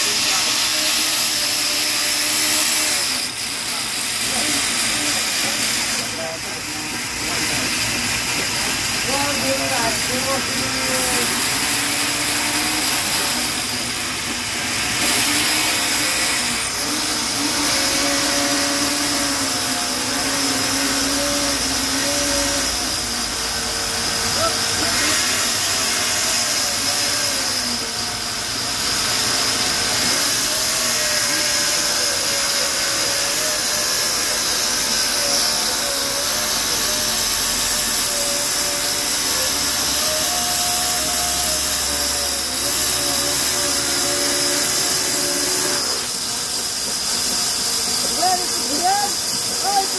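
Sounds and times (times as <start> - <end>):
saw cutting through log: 0.0 - 49.9.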